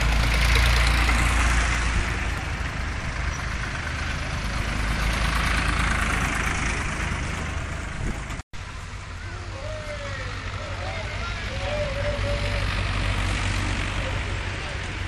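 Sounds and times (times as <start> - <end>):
tractor engines passing slowly: 0.0 - 15.0.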